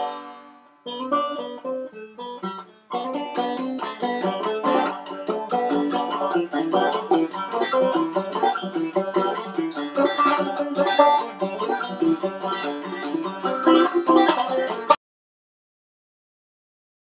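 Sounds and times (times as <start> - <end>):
banjo picking: 0.0 - 15.0.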